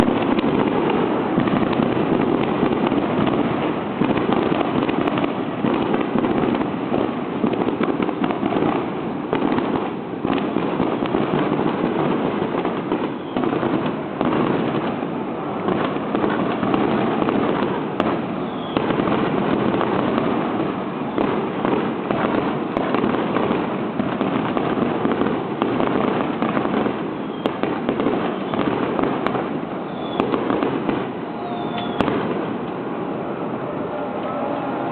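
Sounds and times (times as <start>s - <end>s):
fireworks barrage: 0.0s - 34.9s.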